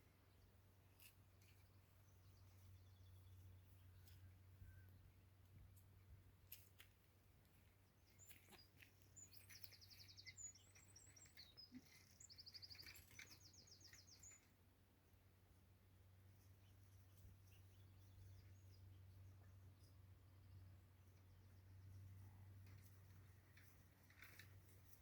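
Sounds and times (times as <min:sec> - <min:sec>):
low steady hum: 0:00.0 - 0:25.0
songbird chirps and trills: 0:00.0 - 0:25.0.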